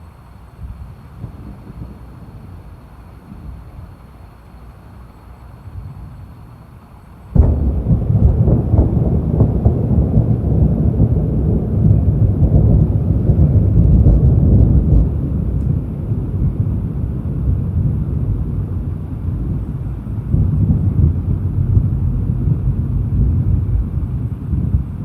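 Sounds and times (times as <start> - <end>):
thunder crack and rumble: 0.6 - 5.0, 7.2 - 25.0.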